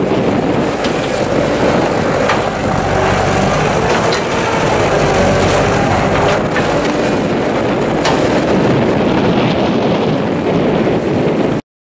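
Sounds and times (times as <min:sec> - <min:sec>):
diesel engine running: 0:00.0 - 0:10.0
wind noise on microphone: 0:00.0 - 0:11.6.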